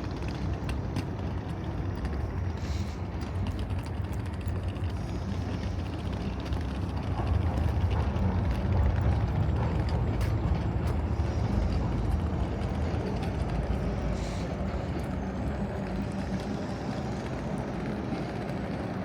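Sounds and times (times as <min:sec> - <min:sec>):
vehicle passing rumble: 0:00.0 - 0:19.0.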